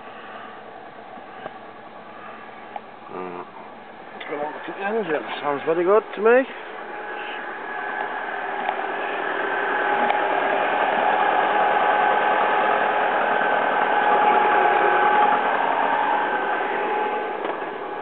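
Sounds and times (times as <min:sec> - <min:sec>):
car engine idling: 0:02.1 - 0:18.0.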